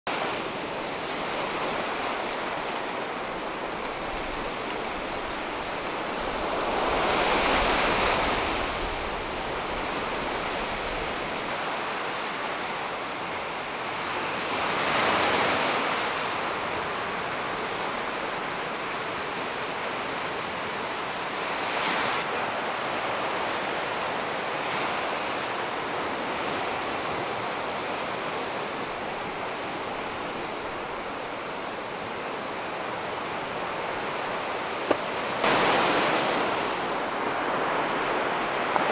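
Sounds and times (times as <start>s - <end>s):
waves washing onto beach: 0.1s - 38.9s.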